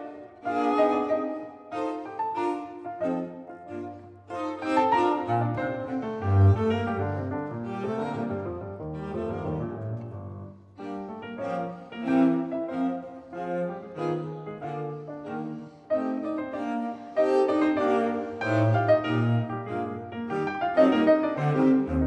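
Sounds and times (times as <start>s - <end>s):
bowed strings: 0.0s - 22.0s
piano melody: 0.0s - 22.0s.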